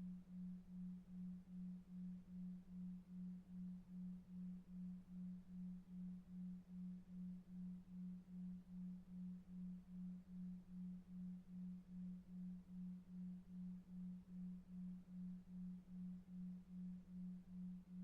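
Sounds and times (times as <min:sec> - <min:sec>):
low pulsing pure tone: 0:00.0 - 0:18.0.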